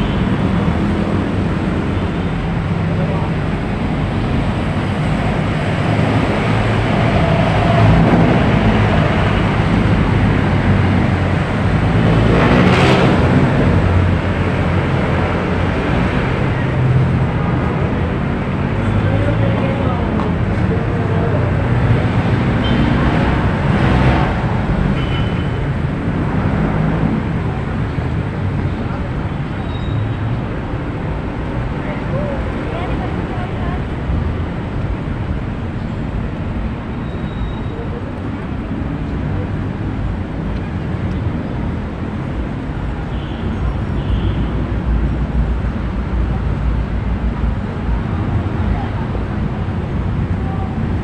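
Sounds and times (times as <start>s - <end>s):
city traffic passing: 0.0s - 51.0s.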